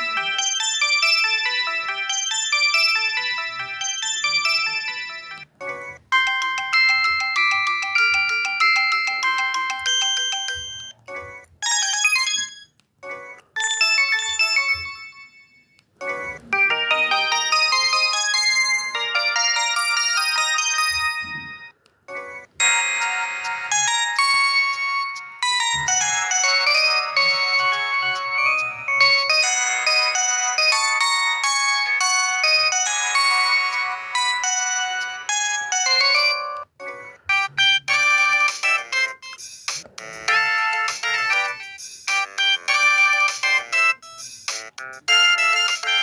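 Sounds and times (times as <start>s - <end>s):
mobile phone ringtone melodies: 0.0s - 46.0s.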